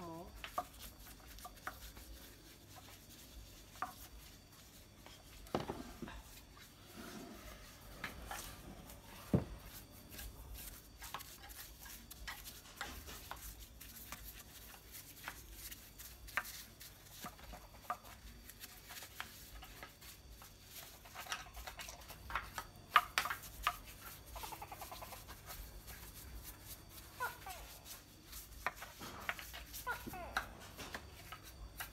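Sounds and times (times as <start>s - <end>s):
paintbrush tapping and brushing wood: 0.1s - 31.9s.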